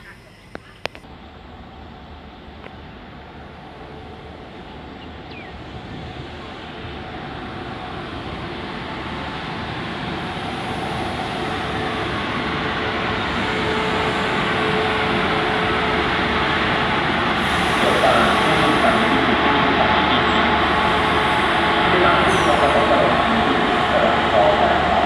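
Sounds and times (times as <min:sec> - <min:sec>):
train wheels on rails: 0:05.0 - 0:25.0.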